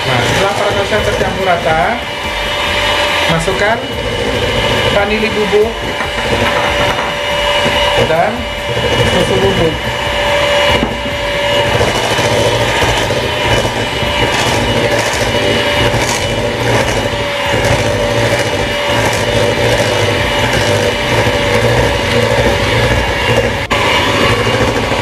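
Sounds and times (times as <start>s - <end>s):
electric hand mixer running: 0.0s - 25.0s.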